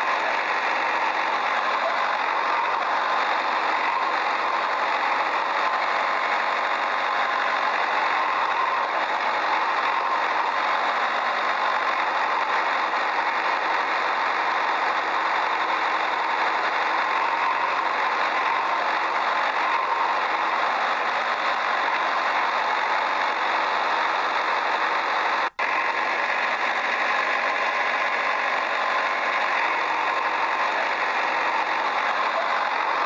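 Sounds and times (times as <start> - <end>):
motor running with even whir: 0.0 - 33.0.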